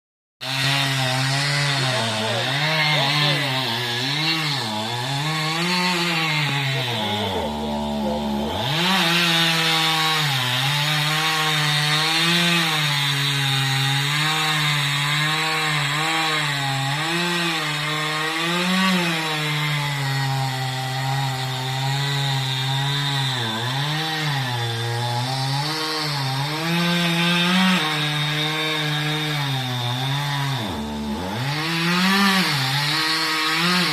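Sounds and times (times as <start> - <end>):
chainsaw cutting wood: 0.4 - 33.9.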